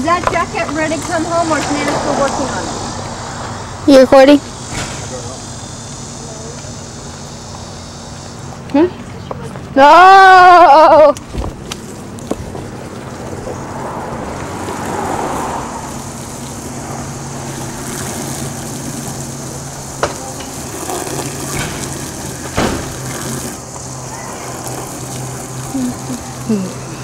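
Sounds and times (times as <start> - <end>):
garden hose spraying pavement: 0.0 - 27.0.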